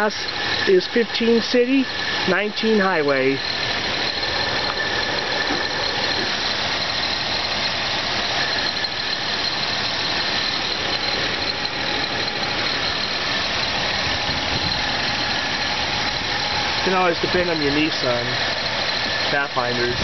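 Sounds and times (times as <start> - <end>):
car engine idling: 0.0 - 20.0
high-pitched whine: 0.0 - 20.0.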